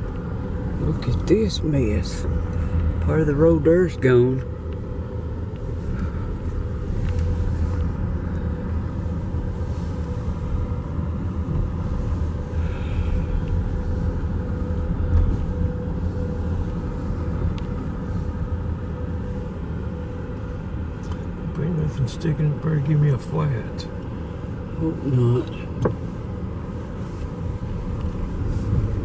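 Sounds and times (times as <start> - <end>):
steady hum: 0.0 - 29.0
vehicle engine and tyres rumbling: 0.0 - 29.0.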